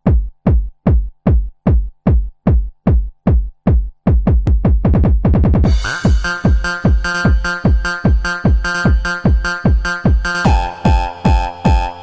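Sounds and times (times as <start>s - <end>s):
kick drum thumping: 0.0s - 12.0s.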